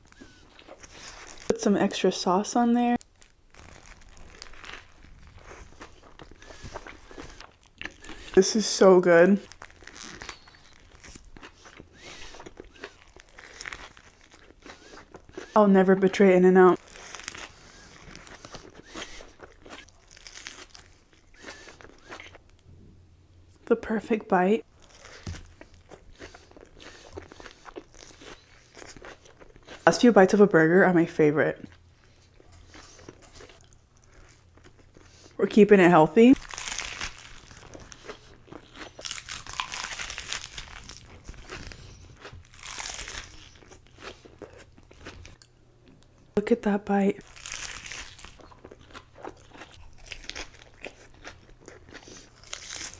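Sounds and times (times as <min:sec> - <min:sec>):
crunchy chewing of burger: 0:00.0 - 0:01.5, 0:03.0 - 0:16.2, 0:16.8 - 0:22.5, 0:24.6 - 0:29.9, 0:31.6 - 0:35.4, 0:36.4 - 0:46.0, 0:47.2 - 0:52.9.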